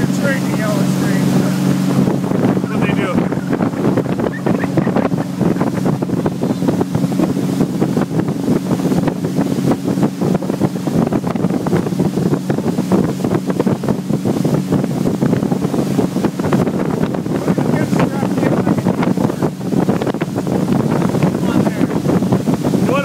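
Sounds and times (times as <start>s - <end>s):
motorboat engine drone: 0.0s - 23.0s
water rushing past hull: 0.0s - 23.0s
wind buffeting microphone: 0.0s - 23.0s.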